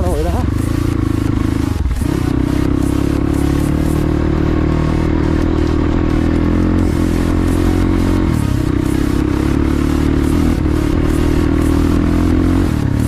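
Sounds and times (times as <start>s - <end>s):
motorcycle engine running: 0.0s - 13.0s
clatter: 0.3s - 13.0s.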